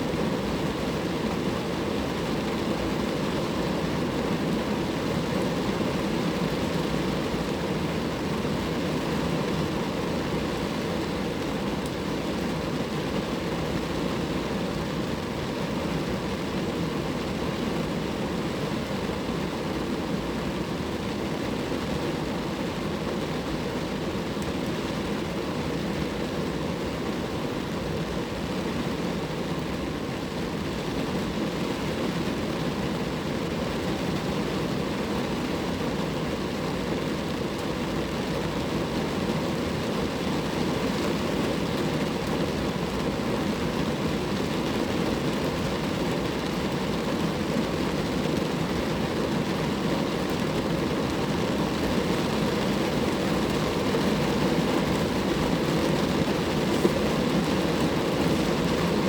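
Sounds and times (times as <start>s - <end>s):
rain pattering on a car: 0.1s - 59.0s.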